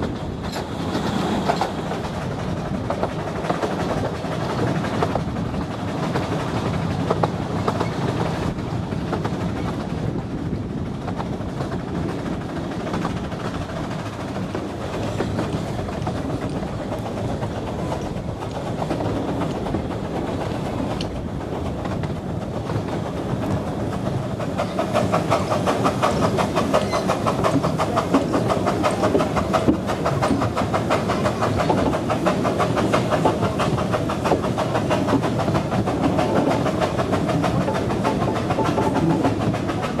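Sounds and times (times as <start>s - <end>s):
steam train rumble and clatter: 0.0s - 40.0s.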